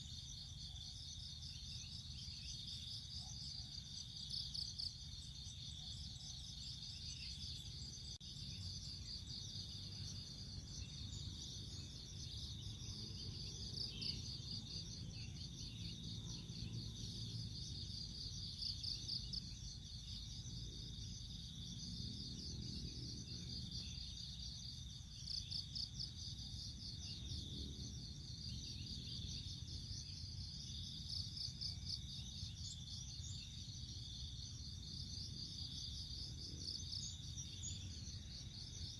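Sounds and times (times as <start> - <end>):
insect trills: 0.0 - 38.9.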